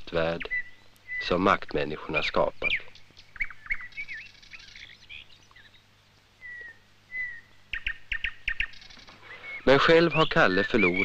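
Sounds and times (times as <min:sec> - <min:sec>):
small birds chirping and whistling: 0:00.1 - 0:11.0.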